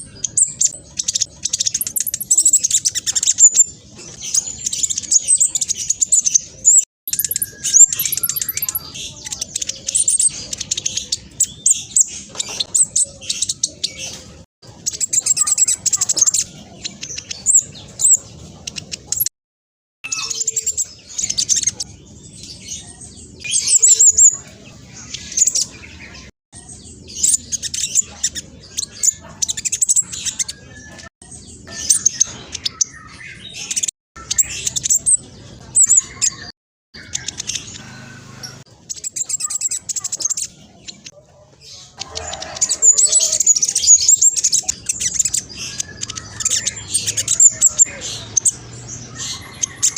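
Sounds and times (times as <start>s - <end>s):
bird chattering song: 0.0s - 19.3s, 20.0s - 49.9s.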